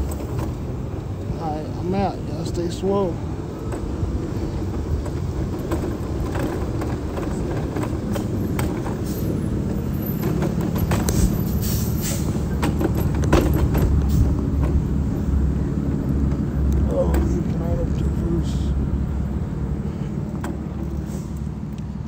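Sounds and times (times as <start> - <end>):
rattles and clicks: 0.0 - 0.8, 3.5 - 18.6, 20.2 - 22.0
wheelchair rolling on pavement: 0.0 - 22.0.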